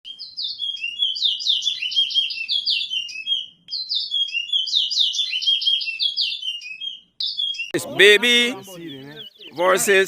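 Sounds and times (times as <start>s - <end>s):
finch singing chirped whistles: 0.1s - 7.8s, 8.5s - 10.0s.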